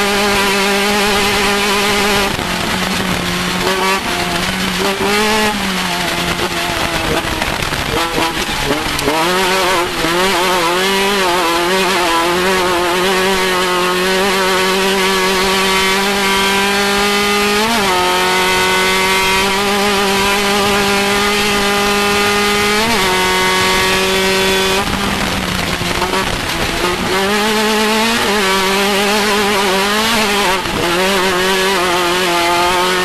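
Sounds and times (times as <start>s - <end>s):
engine running at high pitch: 0.0s - 33.0s.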